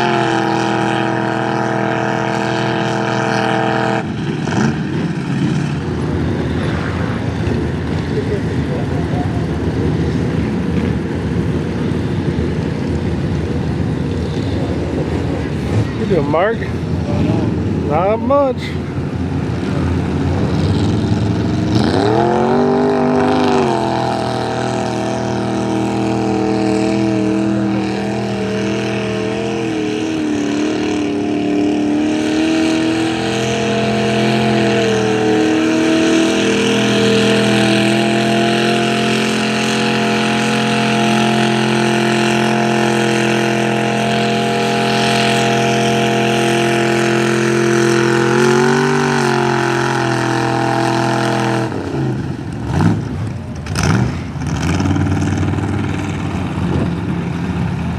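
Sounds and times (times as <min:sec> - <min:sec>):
truck engine revving: 0:00.0 - 0:57.9.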